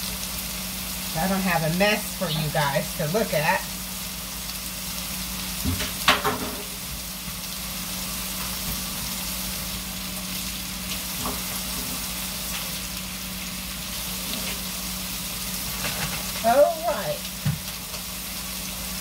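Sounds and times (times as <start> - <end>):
cabbage sizzling in a pan: 0.0 - 19.0.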